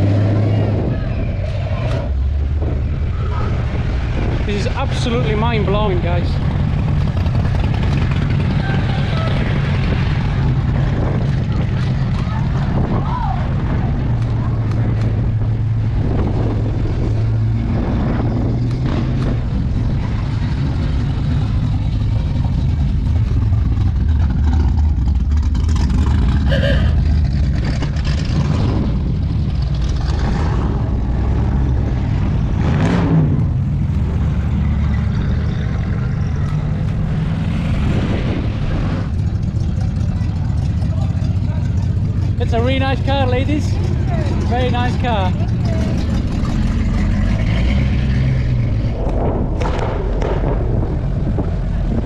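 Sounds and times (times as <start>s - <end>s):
car engines rumbling past: 0.0s - 52.0s.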